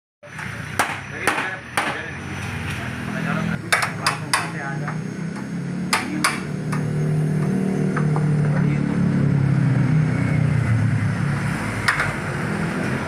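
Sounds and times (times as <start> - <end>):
vehicle engine running: 0.2 - 13.0.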